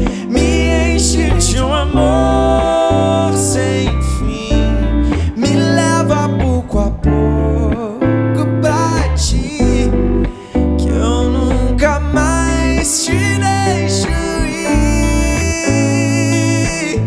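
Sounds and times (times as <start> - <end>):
live pop-rock band: 0.0 - 17.0
man singing: 0.0 - 17.0.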